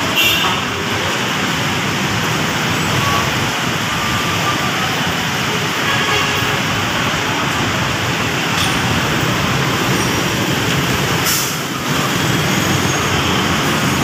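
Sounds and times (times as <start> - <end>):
heavy rain hissing: 0.0 - 14.0
road traffic: 0.0 - 14.0.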